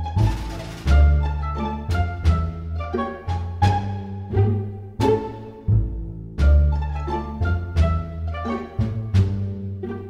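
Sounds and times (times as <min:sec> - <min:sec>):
string tune: 0:00.0 - 0:10.0.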